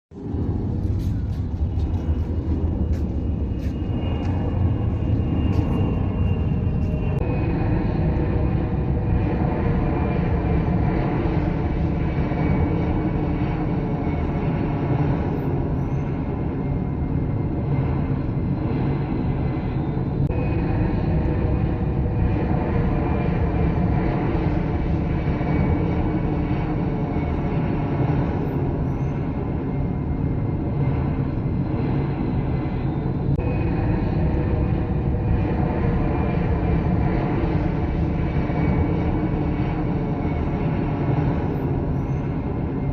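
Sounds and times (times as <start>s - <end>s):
high turbine whine: 0.1s - 42.9s
jet engines roaring: 0.1s - 42.9s.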